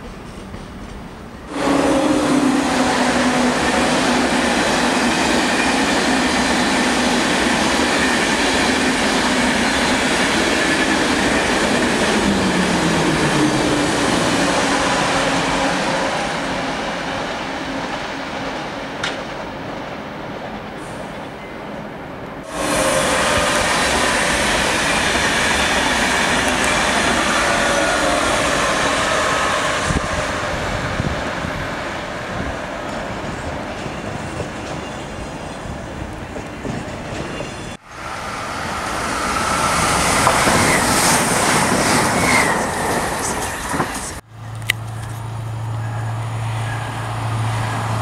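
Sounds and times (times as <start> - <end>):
rush of train wheels on rail: 0.0 - 21.5, 22.4 - 48.0.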